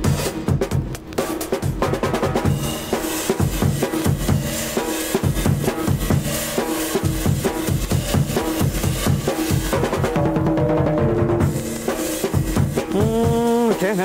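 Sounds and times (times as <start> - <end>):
drum kit solo: 0.0 - 14.0.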